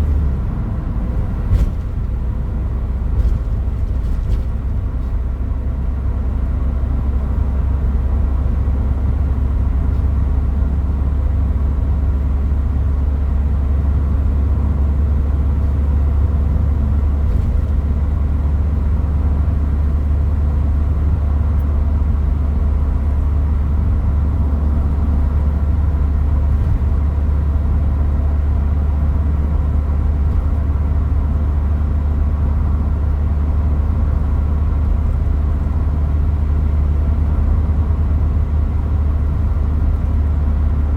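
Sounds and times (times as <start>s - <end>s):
engine drone inside cab: 0.0s - 40.9s
road rumble: 0.0s - 40.9s.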